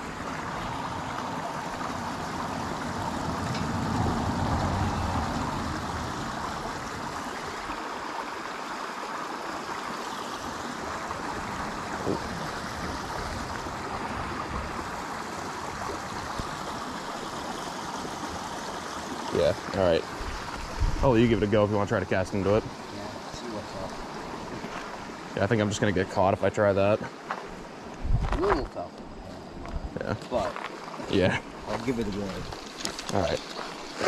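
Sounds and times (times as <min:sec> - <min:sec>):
stream rushing over stones: 0:00.0 - 0:34.0.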